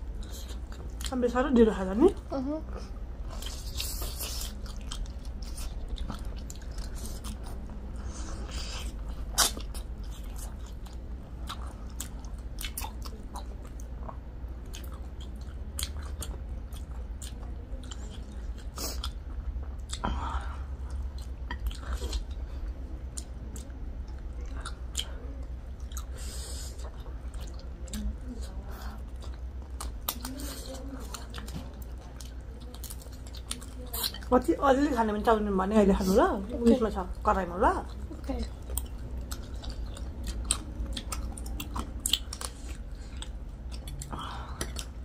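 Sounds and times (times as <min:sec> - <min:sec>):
low steady hum: 0:00.0 - 0:45.0
people chewing food: 0:00.0 - 0:45.0.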